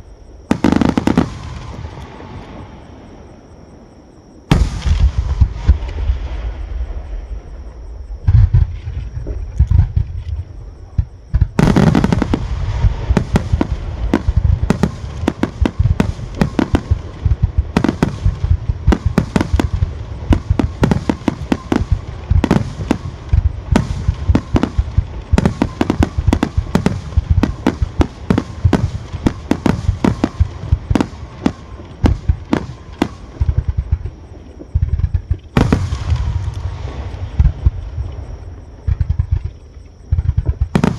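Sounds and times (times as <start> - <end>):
fireworks booming: 0.0 - 40.9
fireworks bangs and crackles: 0.4 - 2.8, 4.5 - 40.9.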